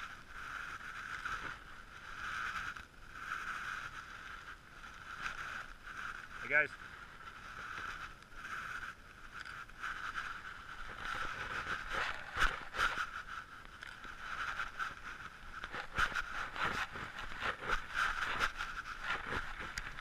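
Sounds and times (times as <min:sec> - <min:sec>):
camera handling scraping and rustling: 0:01.0 - 0:20.0.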